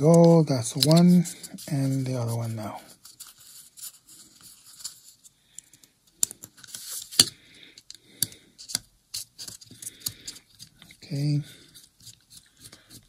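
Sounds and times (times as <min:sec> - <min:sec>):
light scraping of small parts: 0:00.0 - 0:13.0.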